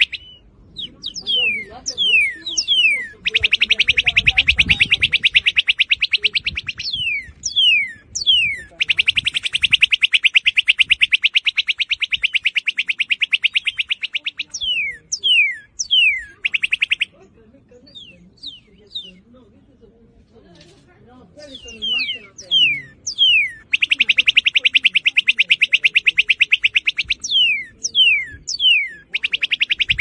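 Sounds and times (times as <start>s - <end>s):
bird down-slurred whistles: 0.0s - 17.2s, 21.5s - 30.0s
bird trilling: 0.0s - 19.4s, 21.4s - 30.0s.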